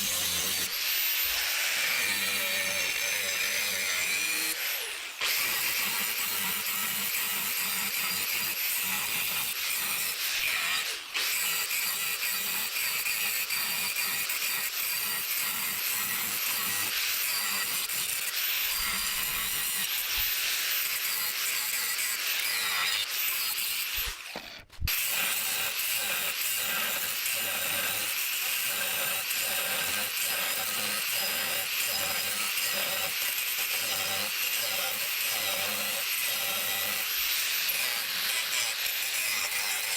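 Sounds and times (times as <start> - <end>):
tool rasping on steel: 0.0 - 39.9.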